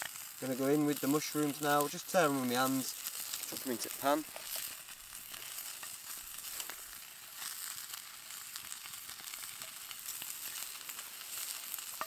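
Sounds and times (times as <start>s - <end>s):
mushrooms sizzling in a skillet: 0.0s - 12.0s.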